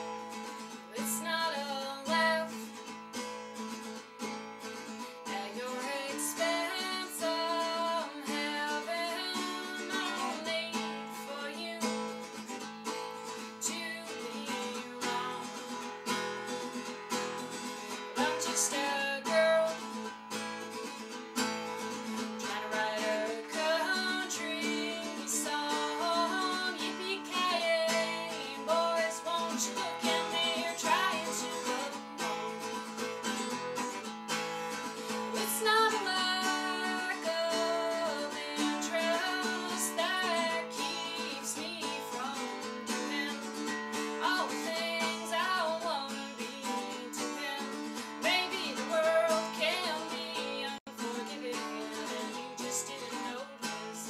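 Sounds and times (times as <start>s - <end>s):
woman singing: 0.0s - 3.0s, 4.8s - 34.1s, 34.7s - 54.0s
acoustic guitar: 0.0s - 54.0s.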